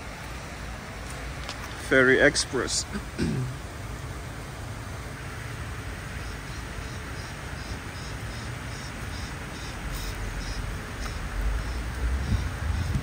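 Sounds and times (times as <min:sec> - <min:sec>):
low city rumble: 0:00.0 - 0:13.0.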